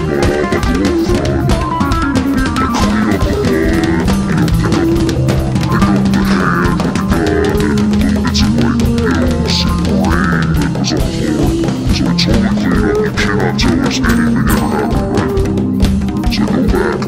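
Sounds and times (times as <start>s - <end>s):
rock drum kit: 0.0s - 17.0s
rock guitar: 0.0s - 17.0s.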